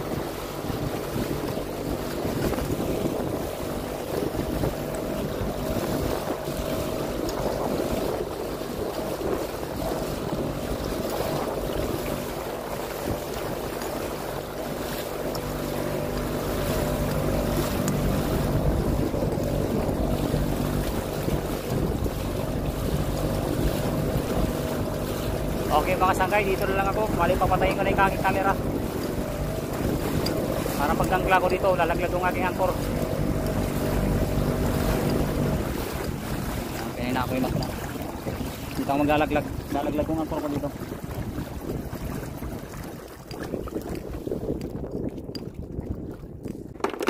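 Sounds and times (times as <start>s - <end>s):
boat motor running: 0.0s - 47.0s
water rushing past hull: 0.0s - 47.0s
wind buffeting microphone: 0.0s - 47.0s.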